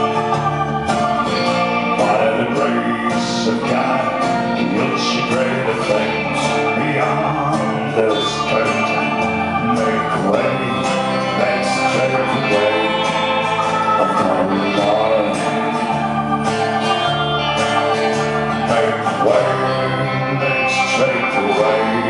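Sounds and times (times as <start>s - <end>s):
live band playing: 0.0s - 22.0s
voices singing: 0.0s - 22.0s.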